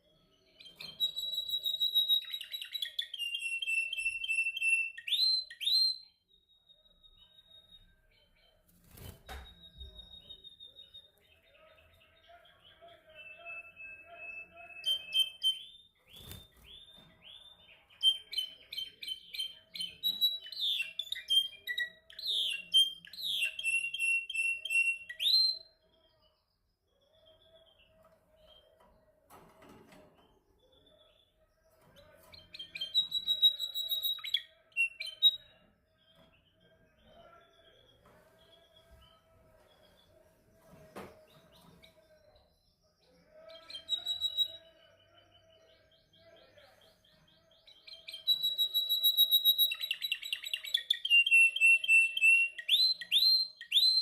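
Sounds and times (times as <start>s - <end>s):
canary singing: 0.0s - 26.0s, 30.6s - 40.2s, 43.2s - 54.0s.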